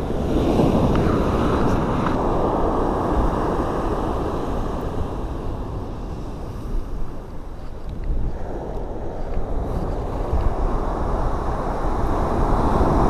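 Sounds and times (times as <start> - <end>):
surf breaking on beach: 0.0 - 7.6, 8.4 - 13.0
wind rumble on microphone: 0.0 - 13.0.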